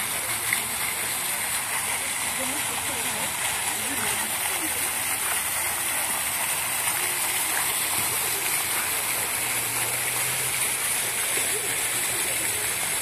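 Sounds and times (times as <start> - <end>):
fountain splashing into basin: 0.0 - 13.0.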